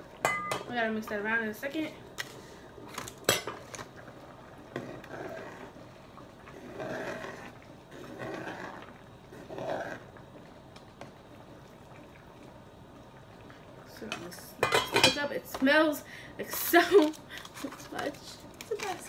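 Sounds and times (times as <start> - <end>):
spoon stirring boiling water: 0.0 - 19.0.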